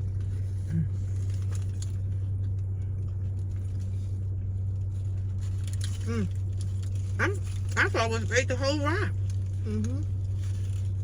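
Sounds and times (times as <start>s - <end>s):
low hum inside car cabin: 0.0s - 11.0s
food wrapping crinkling: 0.1s - 8.0s, 9.1s - 11.0s.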